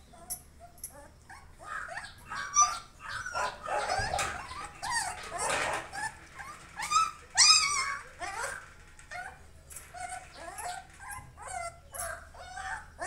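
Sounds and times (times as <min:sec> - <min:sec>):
puppies whimpering and yelping: 0:00.0 - 0:13.0.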